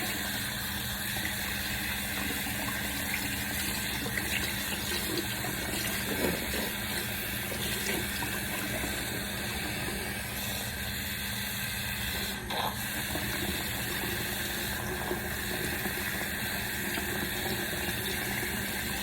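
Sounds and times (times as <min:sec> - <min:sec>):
tap water running: 0:00.0 - 0:19.0.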